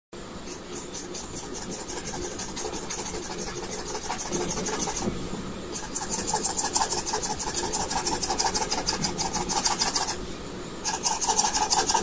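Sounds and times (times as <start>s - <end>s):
pen nib scratching on paper: 0.5s - 5.1s, 5.8s - 10.2s, 10.8s - 12.0s.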